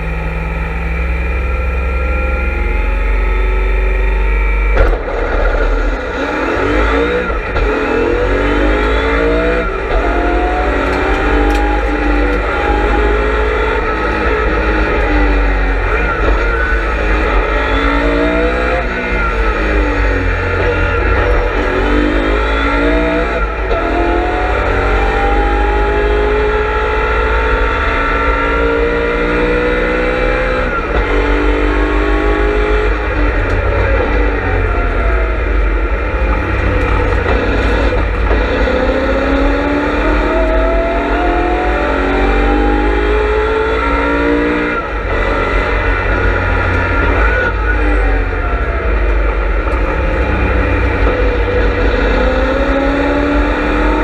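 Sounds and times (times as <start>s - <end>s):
car engine accelerating and shifting: 0.0s - 54.0s.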